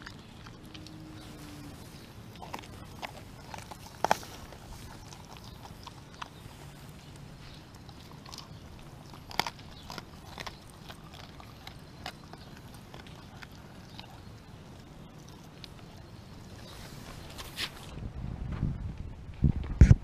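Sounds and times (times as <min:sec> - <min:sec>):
dog crunching bones: 0:00.0 - 0:17.9.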